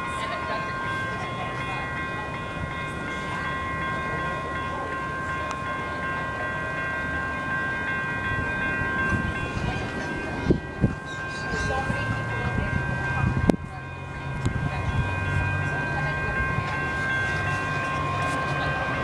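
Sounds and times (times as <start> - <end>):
approaching train rumble: 0.0 - 19.0
railroad crossing warning bells: 0.0 - 19.0.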